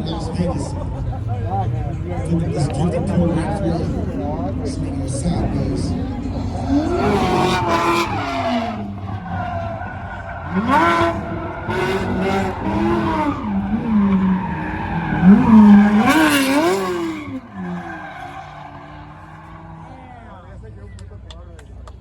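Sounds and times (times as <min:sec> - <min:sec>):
tires squealing: 0:00.0 - 0:21.6
car engine revving: 0:00.0 - 0:22.0.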